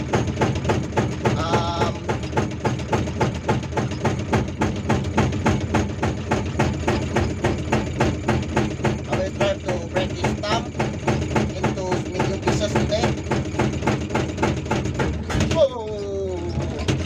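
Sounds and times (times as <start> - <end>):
diesel engine running: 0.0 - 17.0
hydraulic rock breaker hammering: 0.0 - 17.0.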